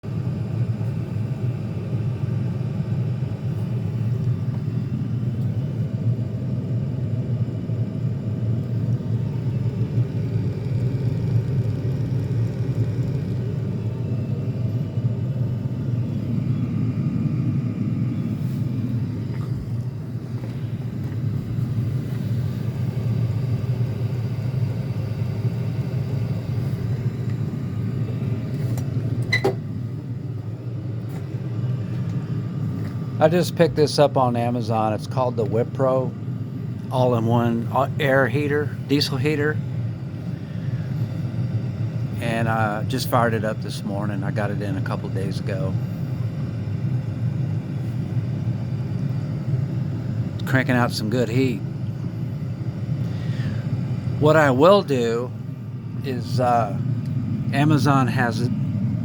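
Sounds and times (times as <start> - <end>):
air heater low rumble: 0.0 - 59.0.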